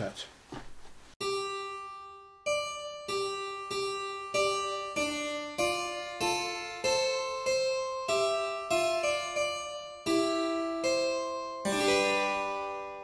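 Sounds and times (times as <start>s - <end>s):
slow solo keyboard music: 1.2s - 13.0s.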